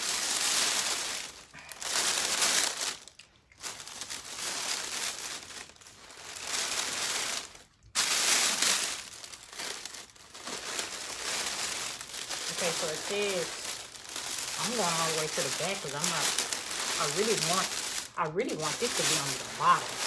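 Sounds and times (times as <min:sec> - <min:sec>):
plastic film crinkling: 0:00.0 - 0:20.0.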